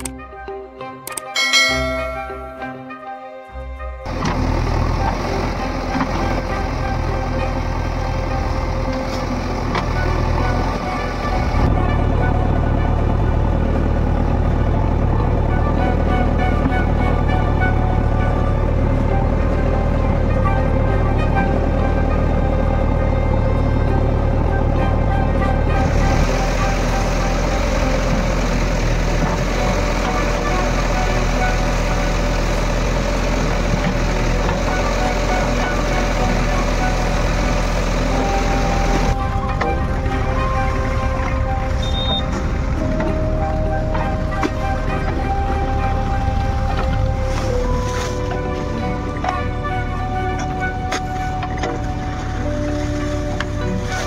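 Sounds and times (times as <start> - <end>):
diesel engine running: 0.0 - 54.0
bucket working through mud and water: 4.1 - 54.0.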